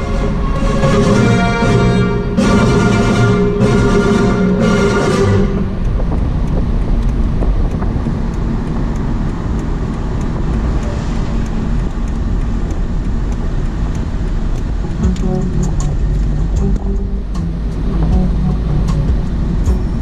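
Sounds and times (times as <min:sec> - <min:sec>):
road and tyre rumble in car: 0:00.0 - 0:20.0.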